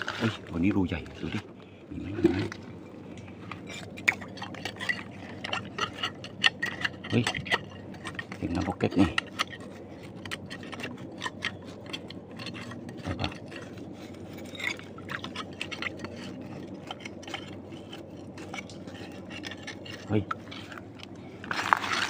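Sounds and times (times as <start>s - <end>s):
scraping in wet mud: 0.0s - 2.7s, 3.4s - 22.0s.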